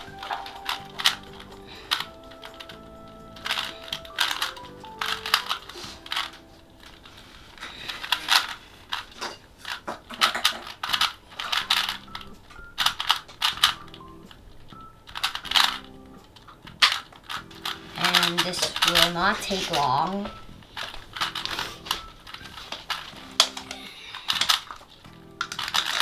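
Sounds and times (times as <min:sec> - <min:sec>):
puzzle cube clicking: 0:00.0 - 0:26.0.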